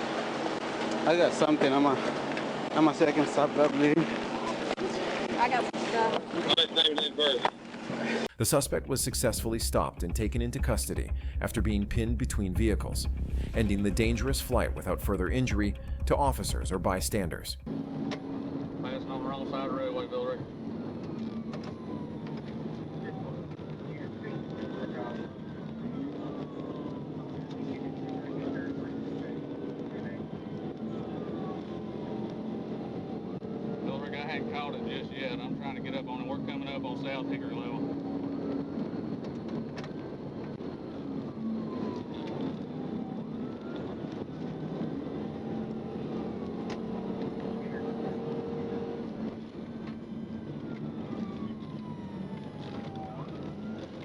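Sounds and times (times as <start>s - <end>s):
police siren wailing: 0.0s - 10.0s, 12.6s - 54.0s
car road and engine noise: 0.0s - 54.0s.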